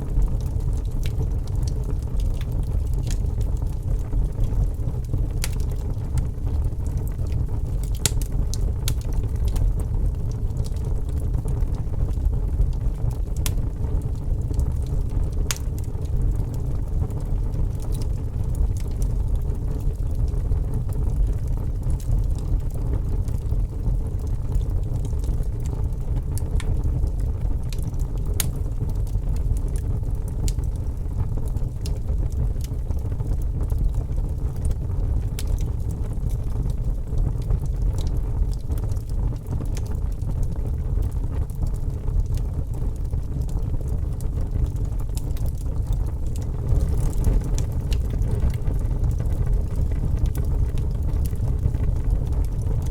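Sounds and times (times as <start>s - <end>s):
fire crackling: 0.0s - 52.9s
fire popping and snapping: 0.0s - 52.9s.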